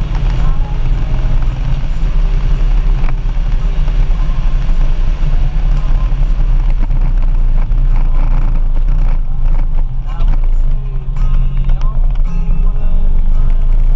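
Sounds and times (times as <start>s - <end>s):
motorcycle engine rumbling: 0.0s - 13.9s.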